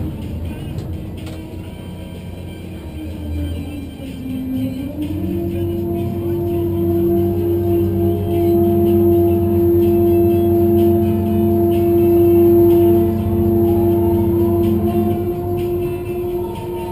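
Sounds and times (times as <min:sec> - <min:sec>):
crane machinery humming and whining: 0:00.0 - 0:16.9.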